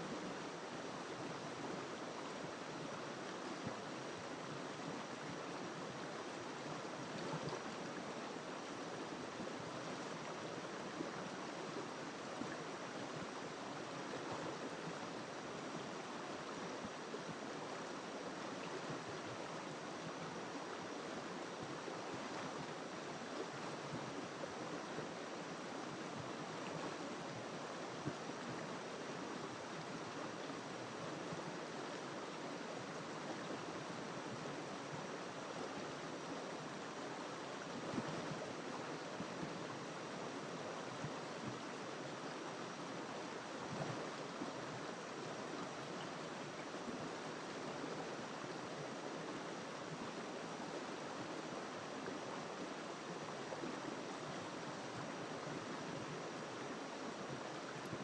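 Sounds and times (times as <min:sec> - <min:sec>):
river flowing over rocks: 0:00.0 - 0:58.0.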